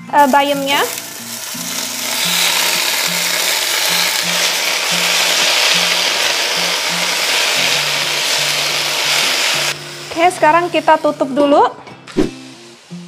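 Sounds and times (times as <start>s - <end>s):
leaves sizzling in hot oil: 0.1s - 11.4s.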